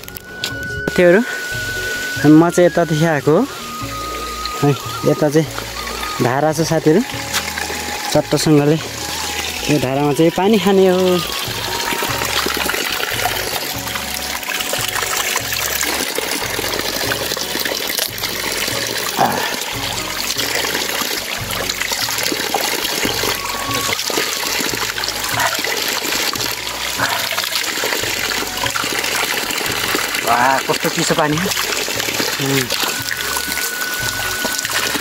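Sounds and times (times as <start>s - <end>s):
water splashing onto rocks: 0.0s - 35.0s.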